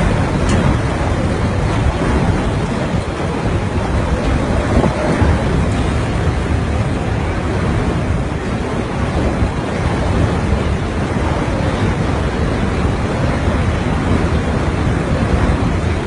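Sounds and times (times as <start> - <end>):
rain: 0.0 - 16.0
wind buffeting microphone: 0.0 - 16.0.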